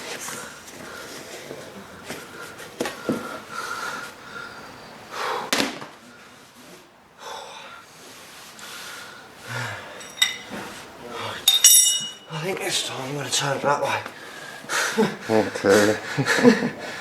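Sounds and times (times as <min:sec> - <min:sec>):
heavy breathing: 0:00.0 - 0:11.7, 0:13.8 - 0:17.0.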